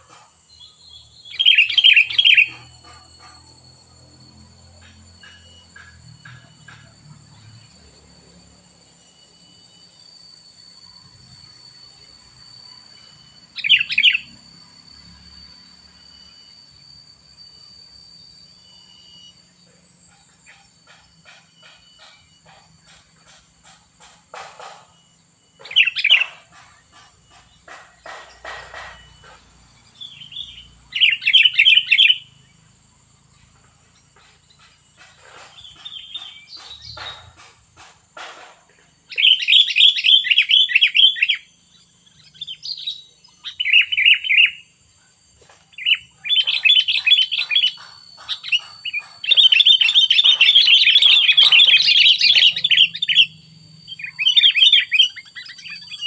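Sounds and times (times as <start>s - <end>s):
bird chattering song: 0.0s - 8.0s, 12.7s - 14.4s, 18.5s - 32.7s, 33.3s - 44.8s, 45.6s - 56.0s.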